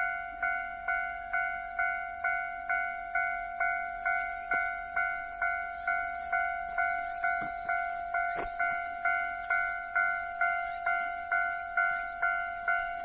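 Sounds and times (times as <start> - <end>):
level-crossing warning bell: 0.0 - 13.0.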